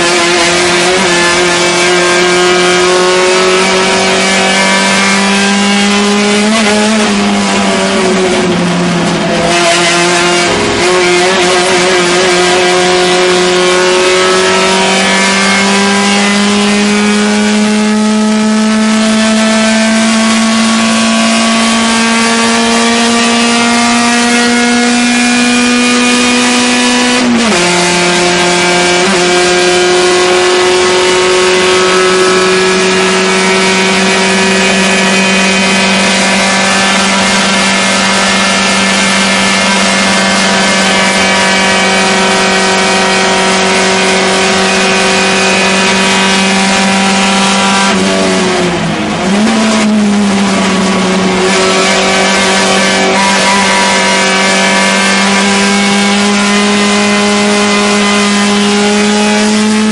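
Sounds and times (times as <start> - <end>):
racing car engine at full throttle: 0.0 - 59.9.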